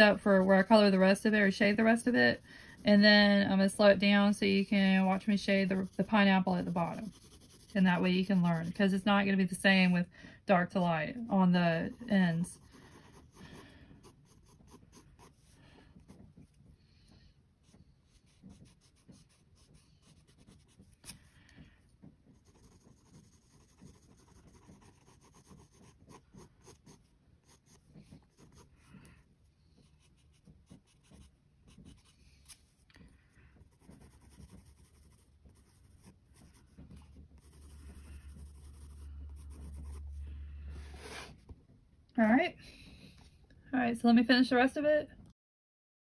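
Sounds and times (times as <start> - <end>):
pencil scratching on paper: 0.0 - 9.9, 11.5 - 16.6, 17.6 - 21.4, 22.3 - 32.9, 33.6 - 41.5.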